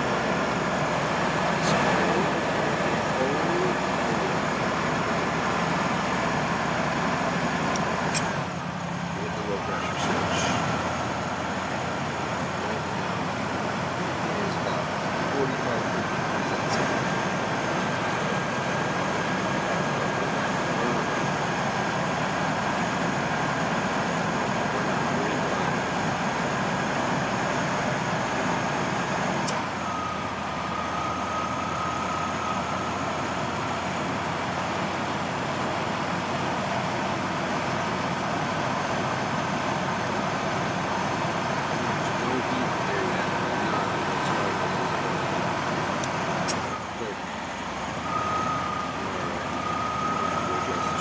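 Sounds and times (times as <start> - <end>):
van engine running: 0.0 - 51.0.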